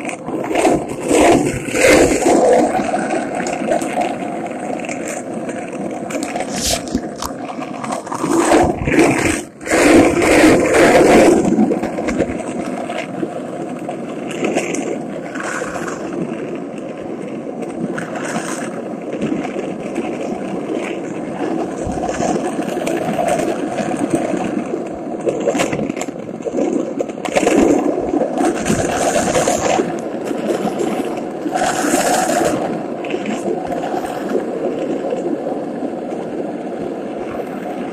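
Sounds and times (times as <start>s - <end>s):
skateboard wheels rolling on asphalt: 0.0s - 37.9s.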